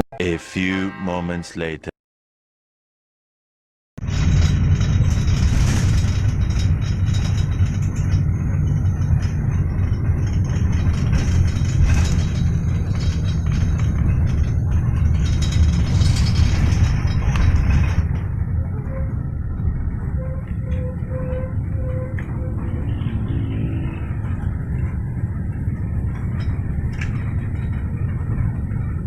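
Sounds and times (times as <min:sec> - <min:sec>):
moving vehicle rumble: 0:04.0 - 0:29.0.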